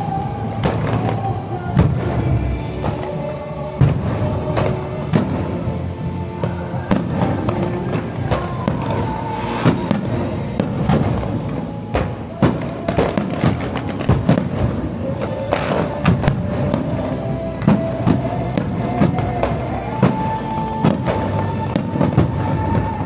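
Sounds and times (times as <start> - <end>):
fireworks bursting: 0.0 - 23.0
music: 0.0 - 23.0.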